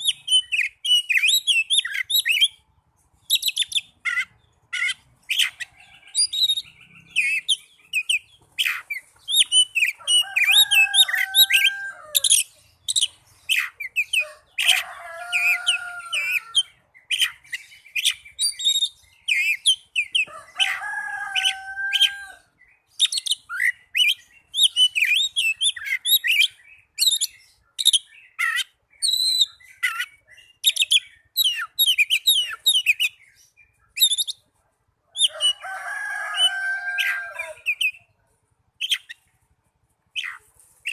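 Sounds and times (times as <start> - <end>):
bird song chirps and trills: 0.0 - 40.9.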